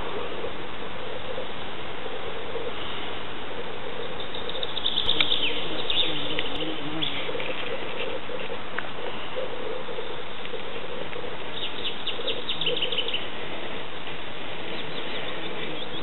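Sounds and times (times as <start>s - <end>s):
birds chirping: 0.0s - 16.0s
faint low pulsing hum: 0.0s - 16.0s
steady hiss: 0.0s - 16.0s.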